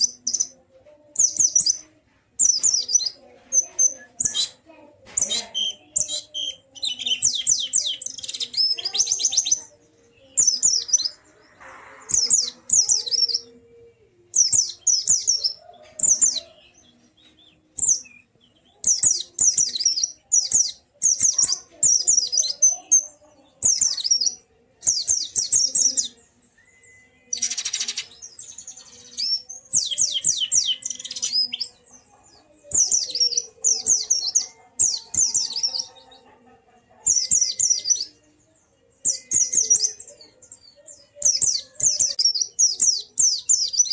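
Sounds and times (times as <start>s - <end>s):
bird twittering song: 0.0s - 36.4s, 37.0s - 43.9s.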